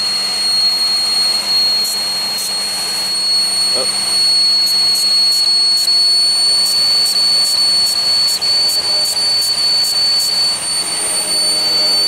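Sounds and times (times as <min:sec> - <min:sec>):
engine high-pitched whistle: 0:00.0 - 0:12.0.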